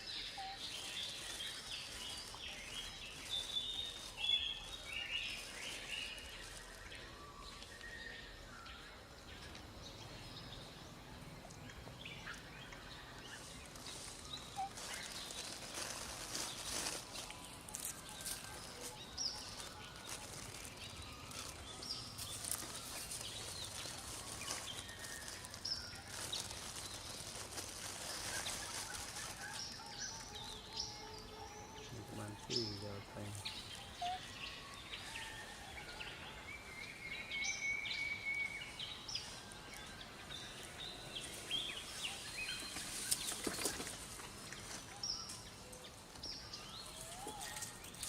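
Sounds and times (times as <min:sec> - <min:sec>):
background hiss: 0:00.0 - 0:48.0
birds chirping: 0:00.0 - 0:48.0.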